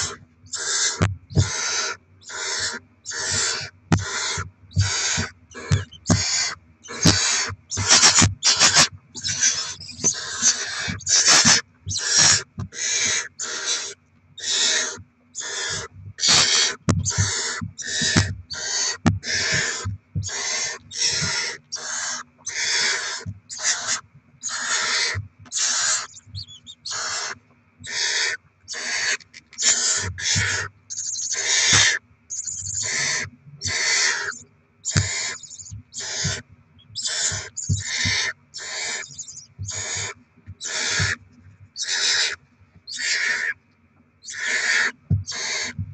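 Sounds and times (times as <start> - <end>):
owl chicks rasping hisses: 0.0 - 36.4, 37.0 - 41.2, 41.8 - 43.6, 44.2 - 45.8
faint low hum: 0.0 - 45.9.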